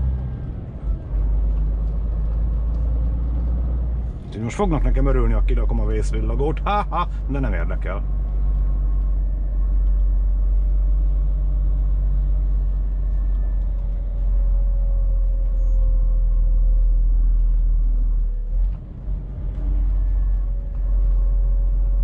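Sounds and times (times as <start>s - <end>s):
faint engine tone: 0.0s - 22.0s
truck rumbling: 0.0s - 22.0s.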